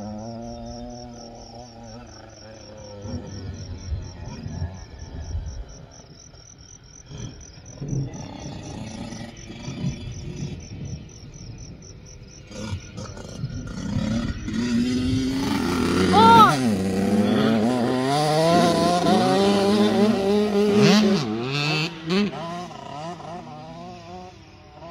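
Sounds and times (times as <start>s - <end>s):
distant dirt bike engine: 0.0s - 24.9s
insect chirping: 0.0s - 24.9s.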